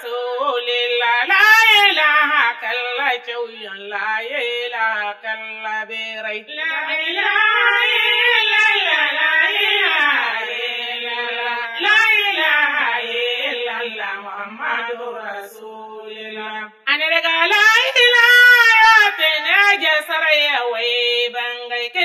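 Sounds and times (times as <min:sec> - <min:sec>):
person singing a chant: 0:00.0 - 0:22.0.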